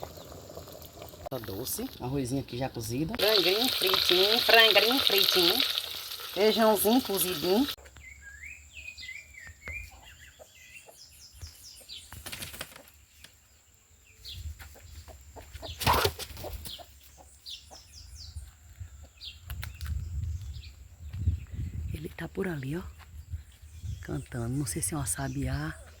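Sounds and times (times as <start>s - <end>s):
songbirds chirping: 1.3s - 26.0s.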